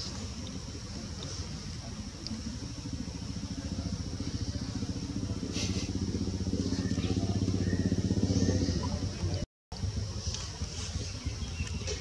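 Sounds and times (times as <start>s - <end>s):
engine running with even pulse: 0.0s - 12.0s.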